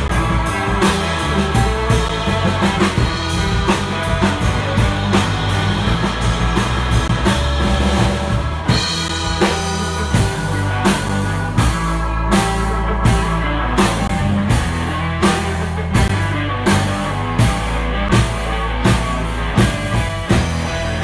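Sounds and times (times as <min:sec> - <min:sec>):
drum kit beat: 0:00.0 - 0:21.0
electric guitar: 0:00.0 - 0:21.0
electric keyboard: 0:00.0 - 0:21.0.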